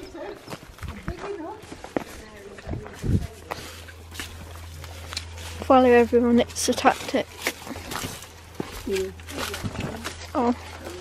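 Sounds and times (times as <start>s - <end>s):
footsteps: 0.0s - 11.0s
steady low hum: 0.0s - 11.0s.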